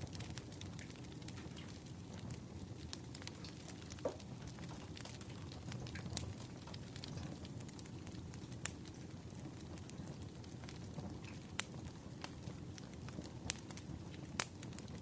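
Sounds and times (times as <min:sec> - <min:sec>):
firewood crackling and popping: 0:00.0 - 0:15.0
low fire rumble: 0:00.0 - 0:15.0.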